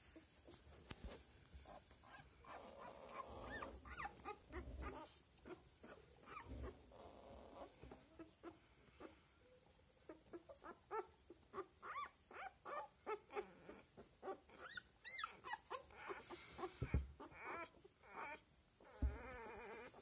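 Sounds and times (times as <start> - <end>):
puppies squeaking and whimpering: 2.0 - 8.6, 10.1 - 20.0.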